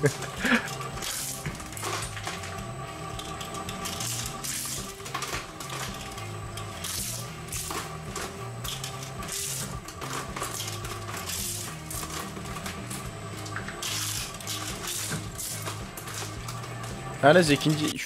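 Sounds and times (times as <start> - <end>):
machine hum: 0.0 - 18.0
shredder crunching plastic: 0.0 - 18.0.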